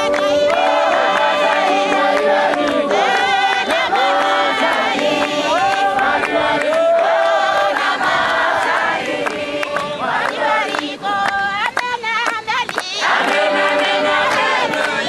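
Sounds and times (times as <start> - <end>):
crowd singing and chanting: 0.0 - 15.0.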